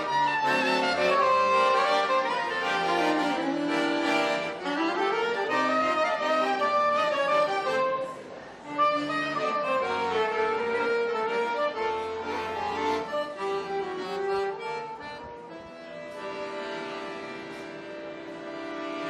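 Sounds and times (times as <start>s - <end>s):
button accordion: 0.0s - 19.0s.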